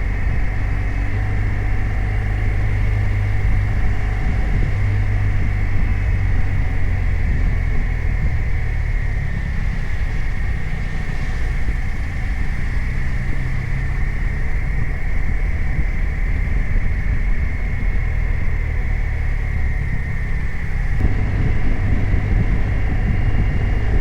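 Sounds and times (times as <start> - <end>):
high whine: 0.0 - 24.0
motorcycle engine running: 0.0 - 24.0.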